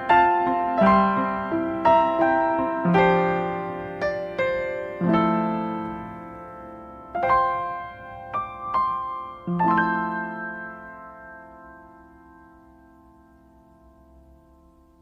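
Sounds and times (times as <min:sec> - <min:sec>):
calm piano music: 0:00.0 - 0:15.0.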